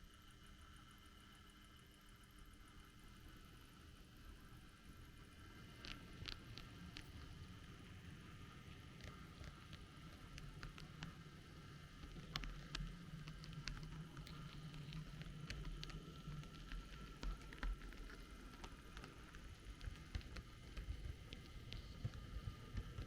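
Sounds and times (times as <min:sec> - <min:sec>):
faint steady whine: 0:00.0 - 0:23.0.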